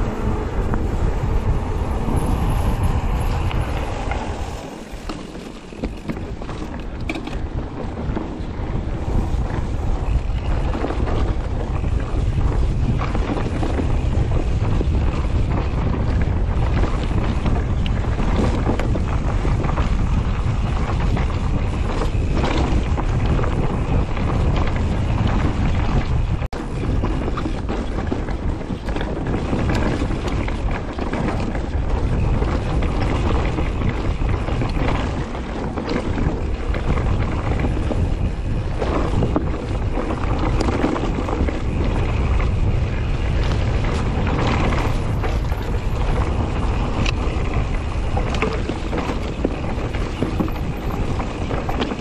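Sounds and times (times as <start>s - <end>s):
bike knocks and rattles: 0.0s - 52.0s
tyres rolling on dirt: 0.0s - 52.0s
wind on microphone: 0.0s - 52.0s.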